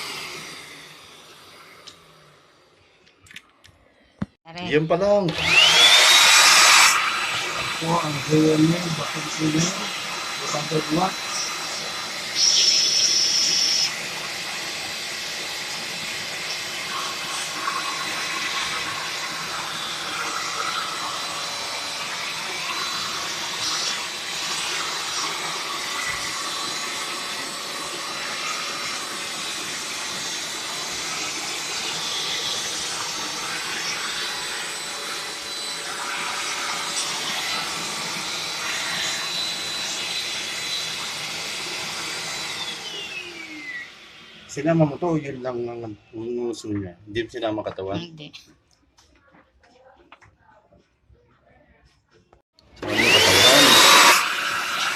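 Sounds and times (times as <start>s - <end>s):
hand vacuum cleaner whine: 0.0s - 3.0s, 4.7s - 46.7s, 52.6s - 54.9s.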